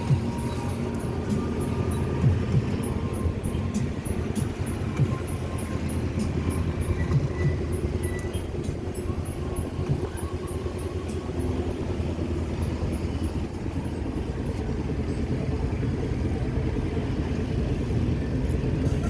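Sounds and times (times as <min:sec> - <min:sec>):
ferry engines droning: 0:00.0 - 0:19.0.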